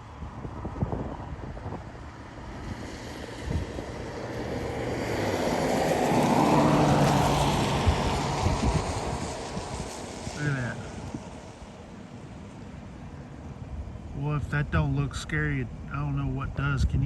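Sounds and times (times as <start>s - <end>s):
vehicle passing on highway: 0.0s - 16.6s
wind rumble on microphone: 0.0s - 17.0s.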